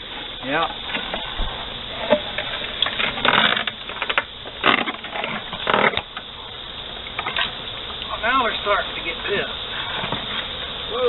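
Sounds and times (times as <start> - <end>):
steady noisy background: 0.0 - 11.0.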